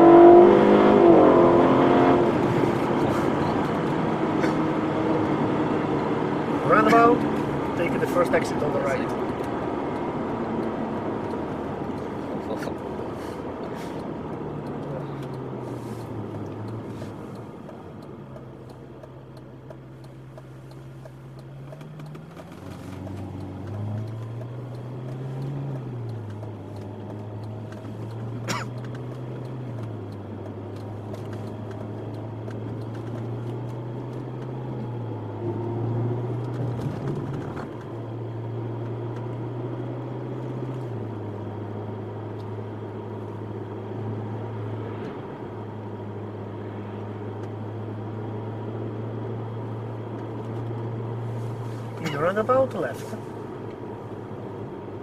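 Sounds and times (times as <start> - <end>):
car engine drone from cabin: 0.0 - 55.0
tyre and road noise: 0.0 - 55.0.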